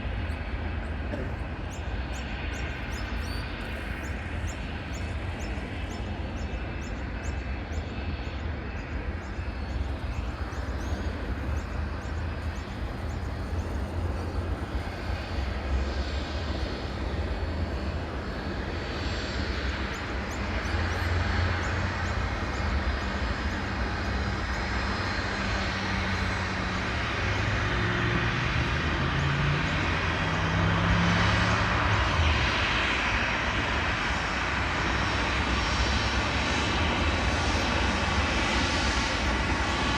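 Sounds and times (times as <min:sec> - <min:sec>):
jet plane flying past: 0:00.0 - 0:39.9.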